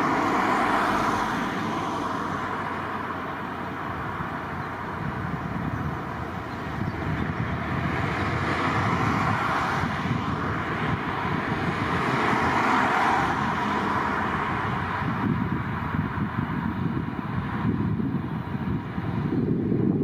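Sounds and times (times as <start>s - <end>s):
jet engines roaring: 0.0s - 19.2s.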